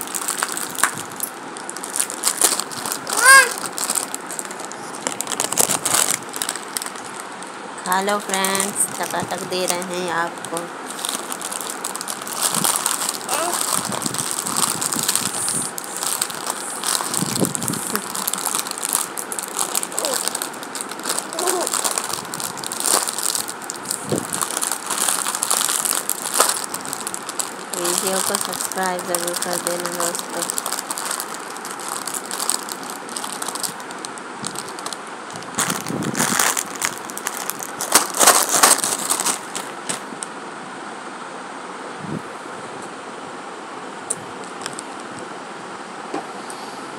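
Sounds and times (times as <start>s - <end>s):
plastic snack packet crackling: 0.0s - 40.1s
plastic wrapper crinkling: 0.0s - 40.2s.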